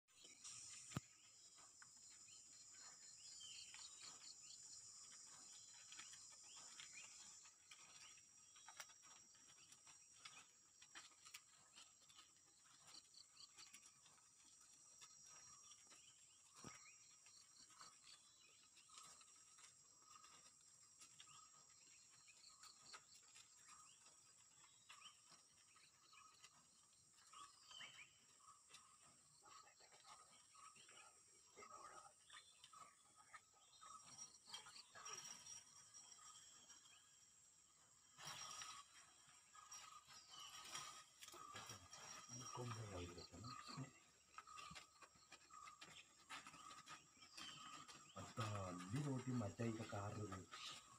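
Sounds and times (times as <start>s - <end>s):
bird chirps: 0.1s - 50.9s.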